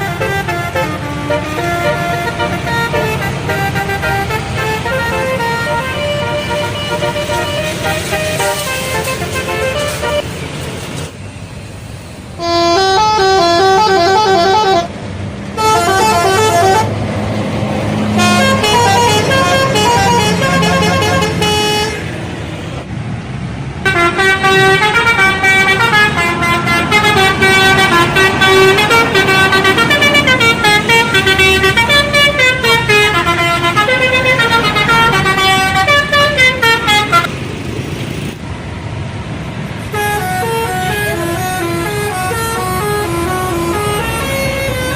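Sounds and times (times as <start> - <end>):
multi-note air horn melody: 0.0 - 10.4, 12.4 - 14.9, 15.6 - 17.0, 18.1 - 22.0, 23.8 - 37.3, 39.9 - 44.9
bus engine running: 0.0 - 44.9.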